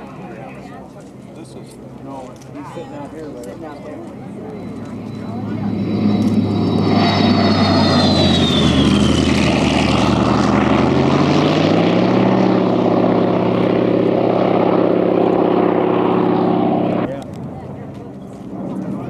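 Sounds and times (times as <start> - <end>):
propeller aircraft engine passing: 0.0 - 19.0.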